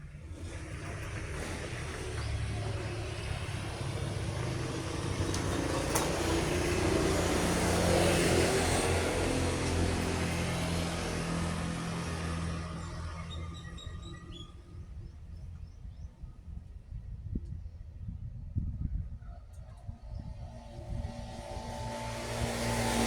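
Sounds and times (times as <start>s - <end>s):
vehicle driving past: 0.0s - 15.6s, 19.8s - 23.0s.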